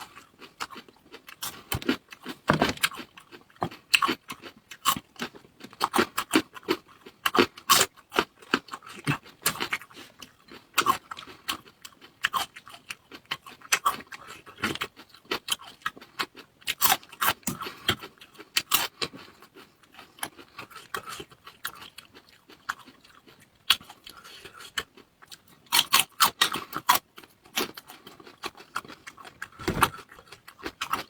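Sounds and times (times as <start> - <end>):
mouth chewing and smacking food: 0.0 - 31.0.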